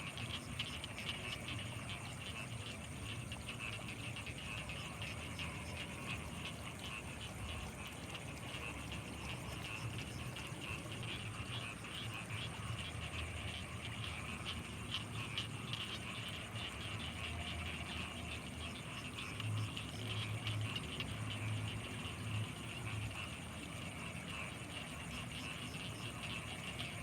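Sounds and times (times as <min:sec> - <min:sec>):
frog chorus: 0:00.0 - 0:27.0.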